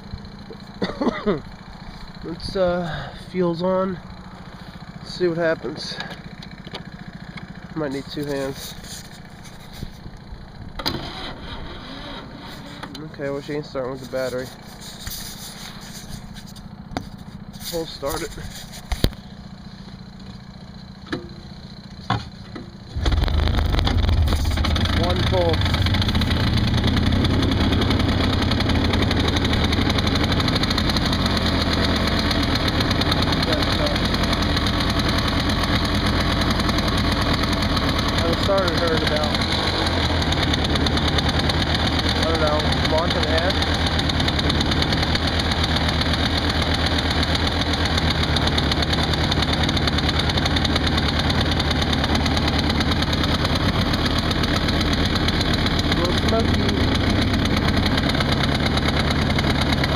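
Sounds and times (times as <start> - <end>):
two-stroke engine idling: 0.0 - 59.9.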